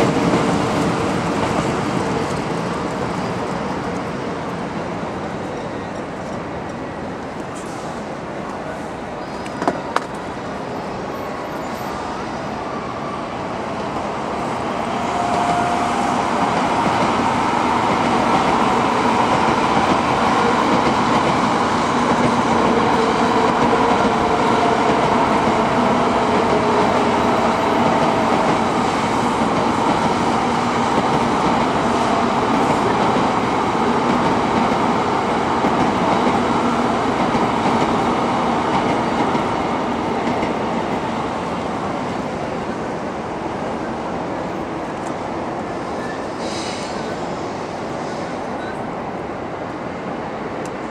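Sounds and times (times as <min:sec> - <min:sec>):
train running on rails: 0:00.0 - 0:50.9.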